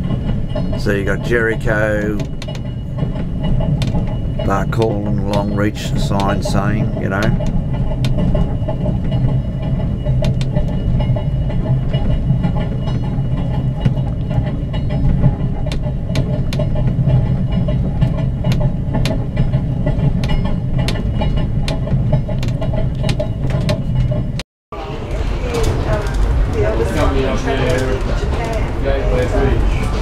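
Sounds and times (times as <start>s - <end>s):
train rumbling: 0.0s - 30.0s
wheels clicking on track: 0.0s - 30.0s.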